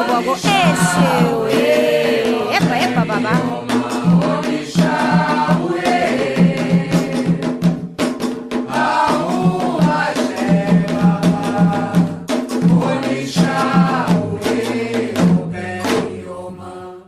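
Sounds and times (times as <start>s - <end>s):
hand drumming: 0.0s - 16.2s
sharp percussive strikes: 0.0s - 16.4s
group singing call-and-response: 0.0s - 17.0s.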